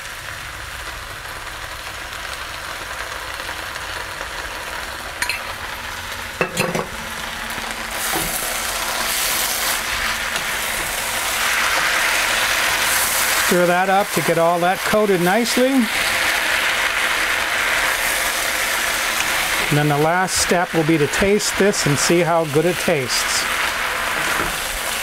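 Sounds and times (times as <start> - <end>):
food sizzling in a wok: 0.0 - 25.0.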